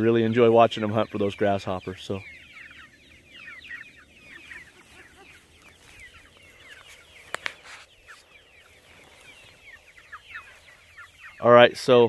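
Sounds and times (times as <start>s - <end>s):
chickens peeping and chirping: 0.0s - 12.0s.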